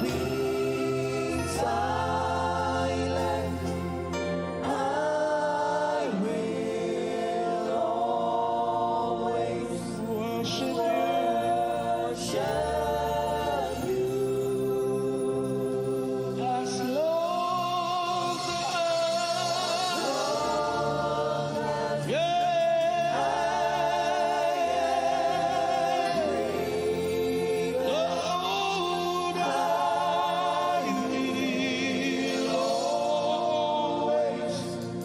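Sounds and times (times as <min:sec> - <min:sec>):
voices singing in harmony: 0:00.0 - 0:35.0.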